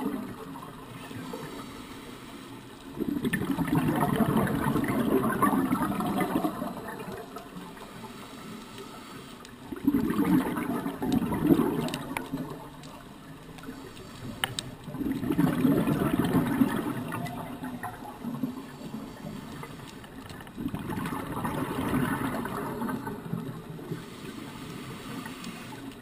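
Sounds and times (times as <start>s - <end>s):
muffled underwater bubbles gurgling: 0.0s - 26.0s.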